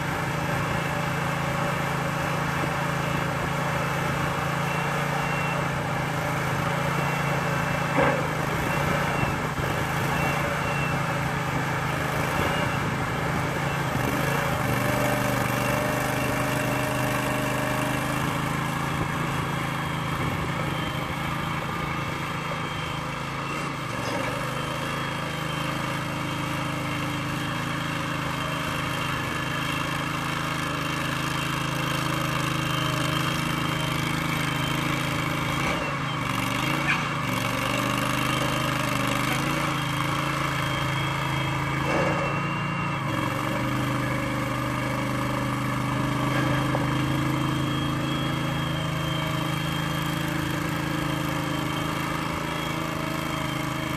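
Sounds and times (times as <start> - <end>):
machine engine running: 0.0 - 53.9.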